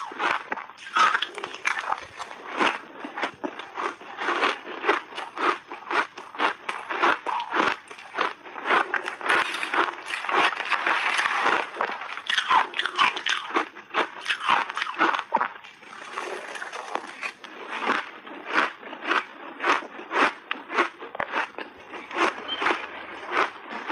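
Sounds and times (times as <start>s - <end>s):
chewing crunchy ice: 0.0s - 23.9s.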